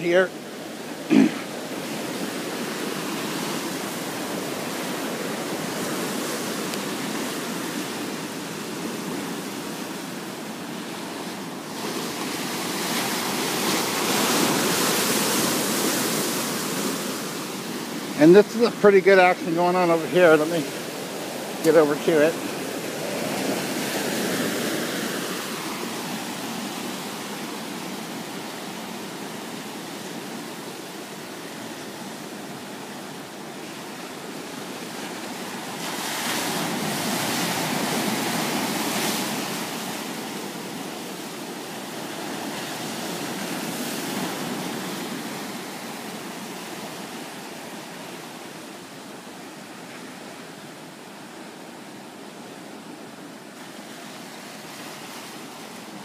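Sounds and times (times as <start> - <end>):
ocean surf breaking on rocks: 0.0 - 56.0.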